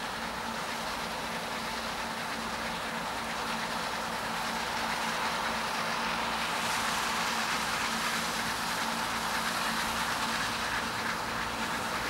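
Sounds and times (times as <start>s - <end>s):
combine harvester engine and machinery: 0.0s - 12.0s.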